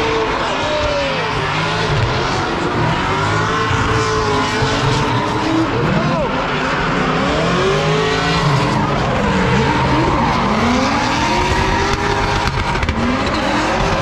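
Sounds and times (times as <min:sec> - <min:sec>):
drift car engines revving: 0:00.0 - 0:14.0.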